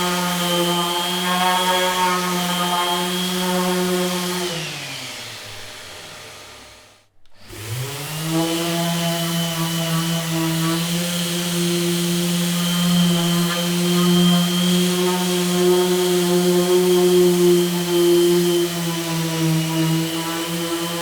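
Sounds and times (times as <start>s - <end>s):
power tool motor running: 0.7s - 21.0s.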